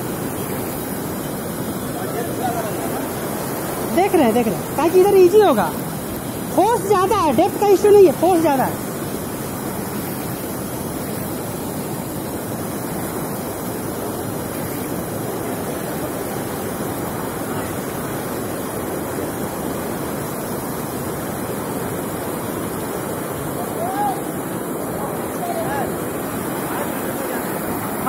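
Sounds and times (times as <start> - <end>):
river rushing over rocks: 0.0 - 28.0.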